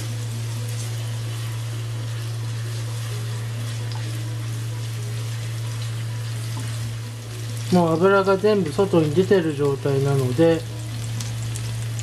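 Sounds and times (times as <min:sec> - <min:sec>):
oil sizzling gently: 0:00.0 - 0:12.0
steady low hum: 0:00.0 - 0:12.0.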